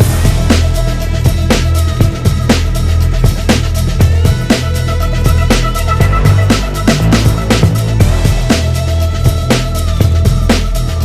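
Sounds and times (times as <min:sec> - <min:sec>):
electronic music with beat: 0:00.0 - 0:11.0.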